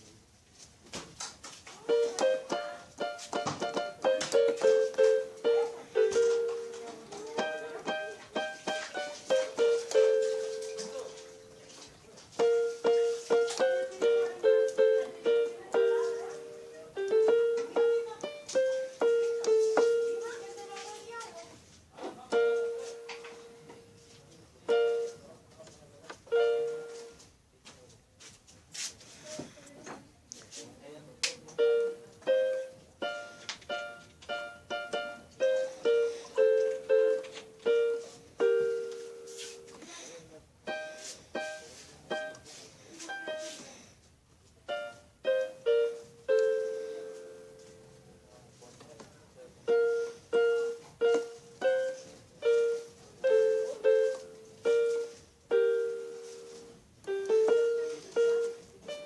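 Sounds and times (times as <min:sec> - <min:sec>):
electronic keyboard melody: 0:01.8 - 0:21.4, 0:22.2 - 0:27.3, 0:31.4 - 0:39.9, 0:40.6 - 0:43.9, 0:44.6 - 0:48.5, 0:49.5 - 0:59.0.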